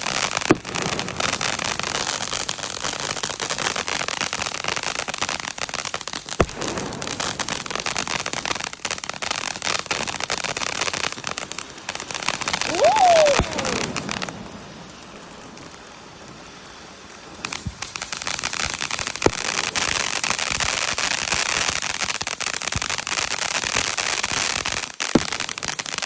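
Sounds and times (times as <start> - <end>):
fireworks crackling: 0.0 - 26.0.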